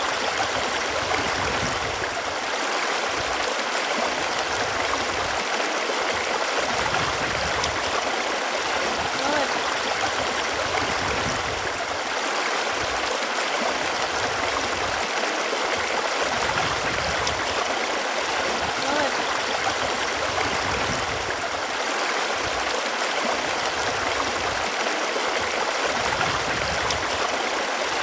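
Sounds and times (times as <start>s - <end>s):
running water rushing and gurgling: 0.0s - 28.0s.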